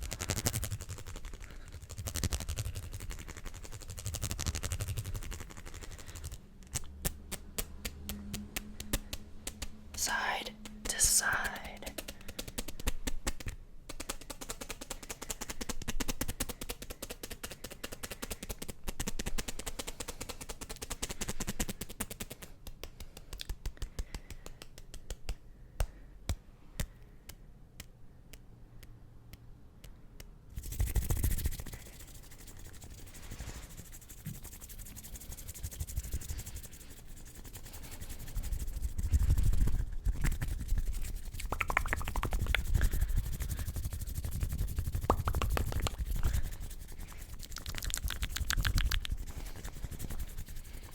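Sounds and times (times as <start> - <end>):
hands rubbing and scratching: 0.0 - 27.0, 27.8 - 50.9.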